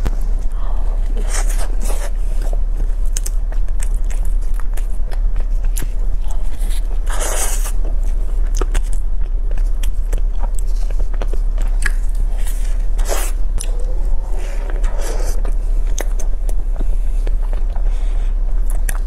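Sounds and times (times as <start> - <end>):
chewing: 0.0 - 19.0
steady low hum: 0.0 - 19.0.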